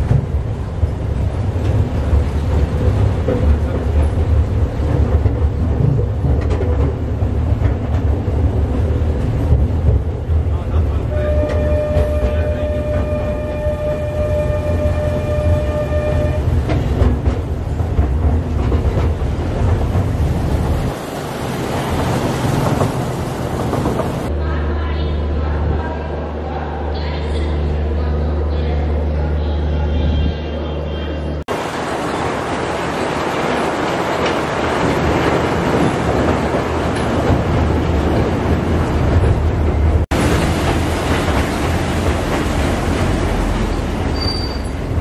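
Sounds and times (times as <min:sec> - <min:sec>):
train clacks: 0:00.0 - 0:24.3, 0:31.5 - 0:45.0.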